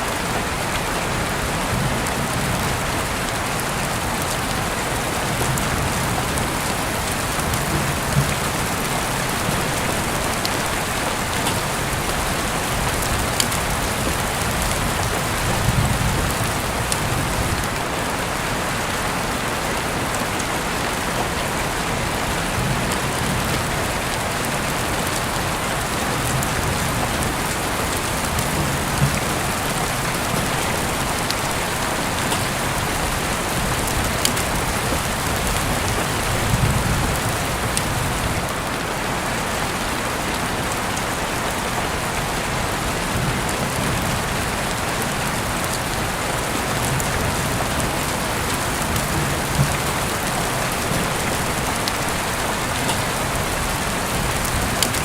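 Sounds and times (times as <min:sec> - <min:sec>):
dense rainfall: 0:00.0 - 0:55.0.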